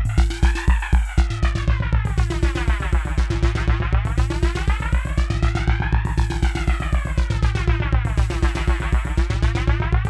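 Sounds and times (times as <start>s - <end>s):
rapid synthesizer pulses: 0.0s - 10.0s
steady low synth tones: 0.0s - 10.0s.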